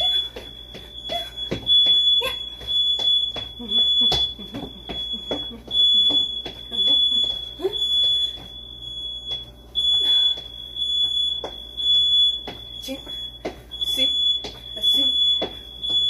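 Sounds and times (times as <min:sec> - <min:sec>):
smoke alarm high-pitched tone: 0:00.0 - 0:16.0.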